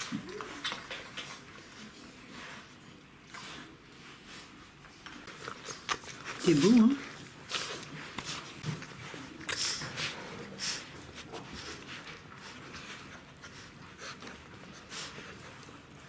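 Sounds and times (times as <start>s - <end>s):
puppies suckling: 0.0s - 16.0s.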